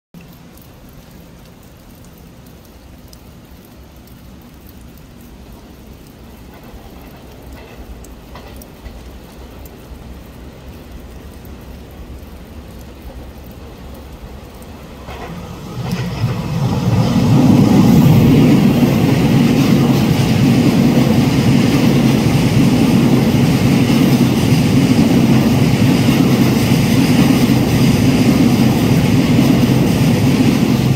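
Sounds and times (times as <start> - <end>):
train wheels rumbling on rails: 6.1 - 30.9.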